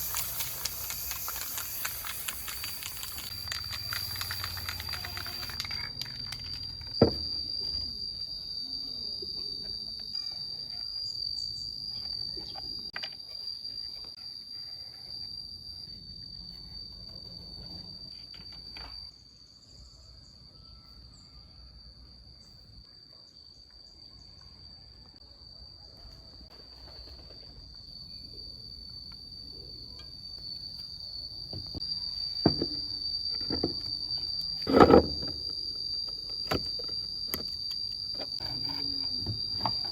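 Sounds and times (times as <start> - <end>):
high insect-like chirring: 0.0 - 21.4, 26.2 - 39.9.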